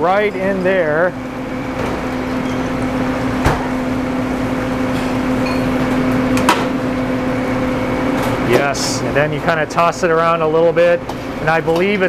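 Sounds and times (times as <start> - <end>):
wok burner roaring: 0.0 - 12.0.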